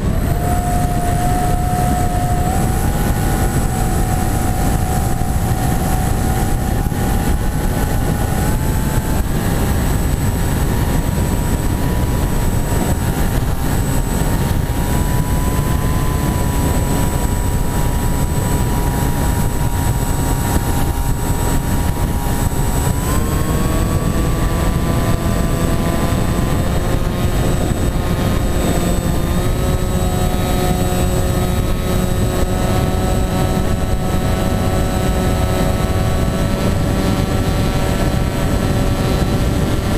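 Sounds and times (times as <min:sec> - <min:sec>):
electric motor whine: 0:00.0 - 0:39.9
wind rush: 0:00.0 - 0:39.9.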